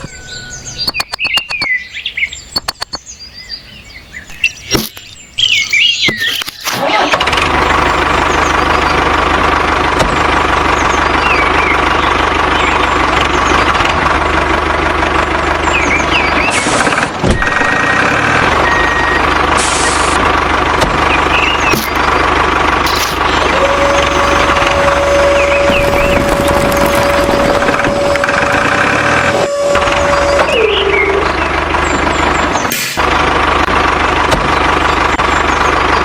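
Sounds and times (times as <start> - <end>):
birds chirping: 0.0 - 7.0, 7.6 - 32.8, 33.6 - 36.0
small engine running: 6.2 - 36.0.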